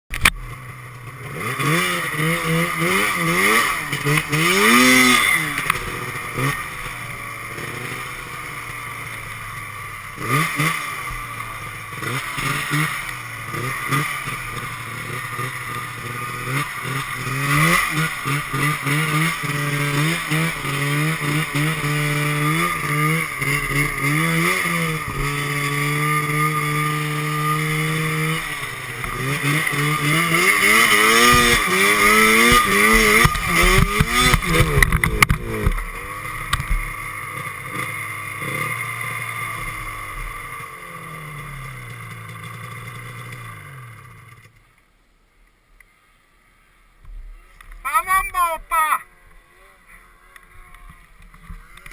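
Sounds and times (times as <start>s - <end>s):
snowmobile engine revving: 0.3s - 44.5s, 47.4s - 51.9s.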